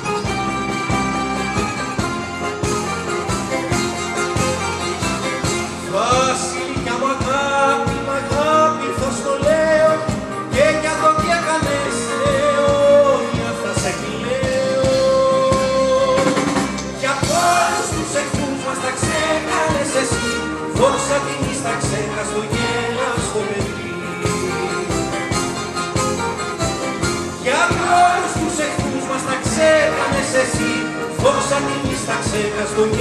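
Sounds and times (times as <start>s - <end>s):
plucked-string orchestra strumming: 0.0s - 33.0s.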